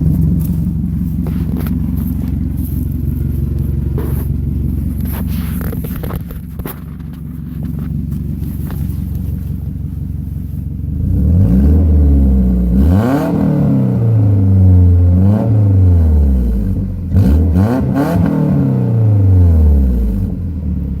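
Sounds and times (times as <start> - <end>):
loud raw exhaust note: 0.0 - 20.4
car engine idling and revving: 0.0 - 21.0.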